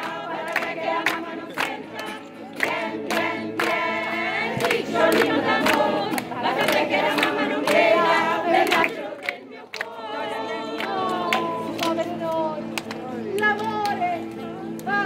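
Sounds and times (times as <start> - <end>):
hand claps: 0.0 - 9.9, 10.8 - 15.0
women singing a folk song: 0.0 - 15.0.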